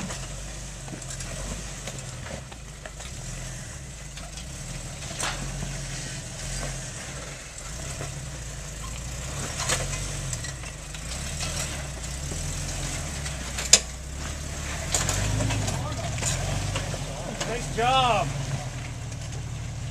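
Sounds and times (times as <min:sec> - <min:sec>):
engine running at low revs: 0:00.0 - 0:19.9.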